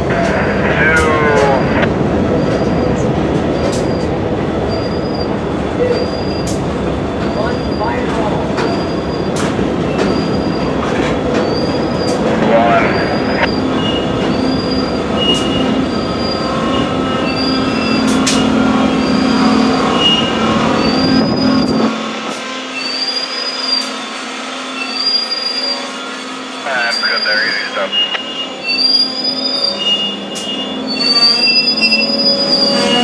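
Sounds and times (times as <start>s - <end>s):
train wheels rumbling on rail: 0.0s - 33.0s
high wheel squeal: 3.6s - 6.6s, 7.3s - 10.8s, 11.4s - 33.0s.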